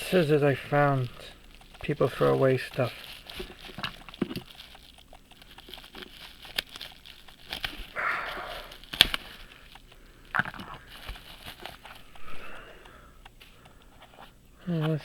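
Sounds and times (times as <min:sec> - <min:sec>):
wrapping crinkle: 0:00.0 - 0:15.0
wrapping rustling: 0:00.0 - 0:15.0.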